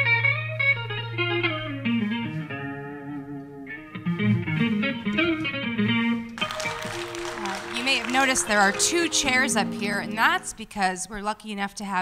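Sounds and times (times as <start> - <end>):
plucked guitar melody: 0.0 - 10.5.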